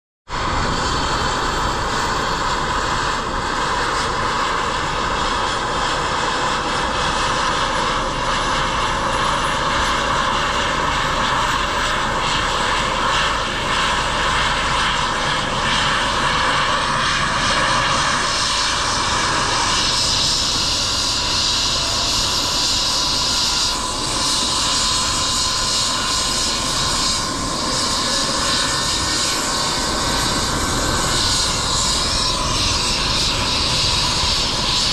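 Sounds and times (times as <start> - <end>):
helicopter turbine engines whining: 0.3 - 34.9.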